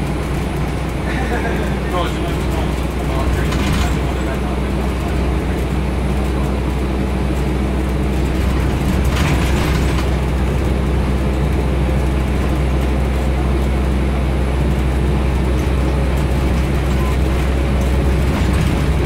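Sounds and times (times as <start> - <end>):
bus engine drone: 0.0 - 19.0
road and body noise: 0.0 - 19.0.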